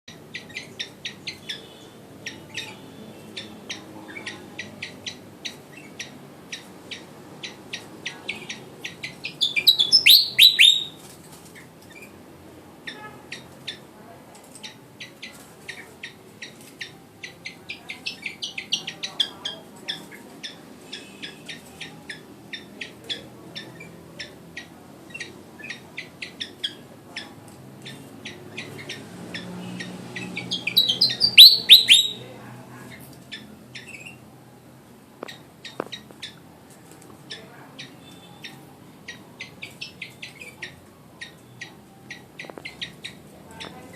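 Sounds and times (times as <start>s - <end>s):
bird chirping: 0.1s - 12.2s, 14.5s - 34.3s, 35.2s - 36.5s, 37.3s - 43.9s.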